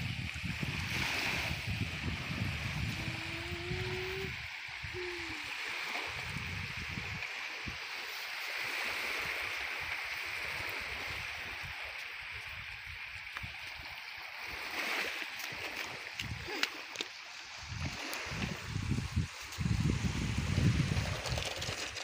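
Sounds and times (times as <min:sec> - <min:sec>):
small waves washing on shore: 0:00.0 - 0:22.0
wind rumbling on microphone: 0:00.0 - 0:22.0.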